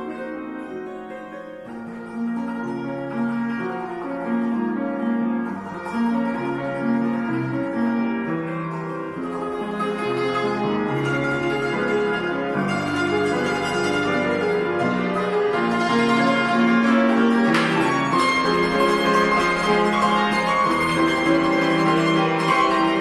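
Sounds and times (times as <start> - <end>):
grand piano accompaniment: 0.0 - 23.0
hammered dulcimer melody: 0.0 - 23.0.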